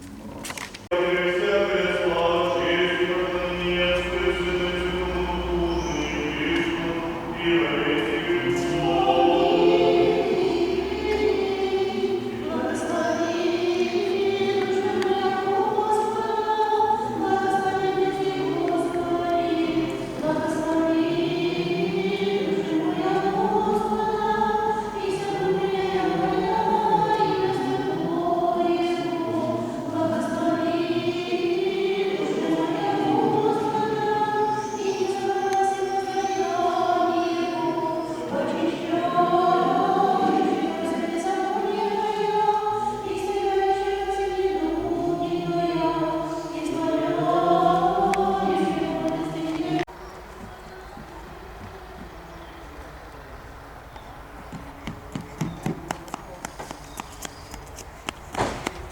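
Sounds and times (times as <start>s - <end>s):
choir singing a slow chant: 0.9s - 53.0s.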